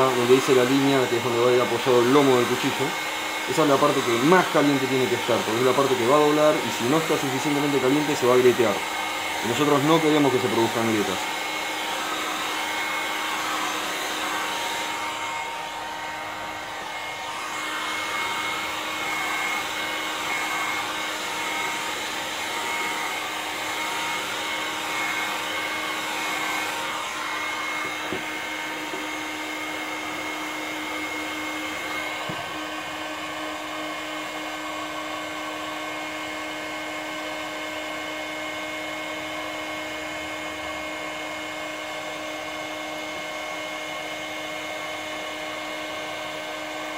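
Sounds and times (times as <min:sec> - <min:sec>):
heat gun fan whining: 0:00.0 - 0:46.9.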